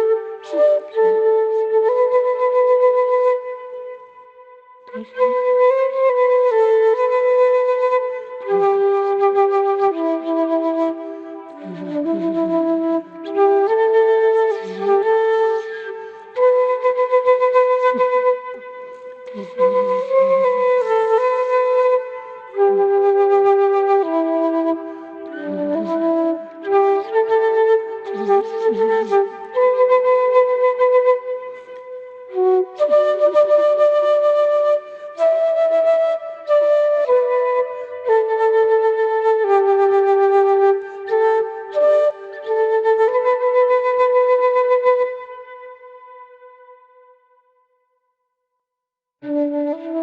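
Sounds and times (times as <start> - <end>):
bamboo flute melody: 0.0 - 47.3, 49.2 - 50.0.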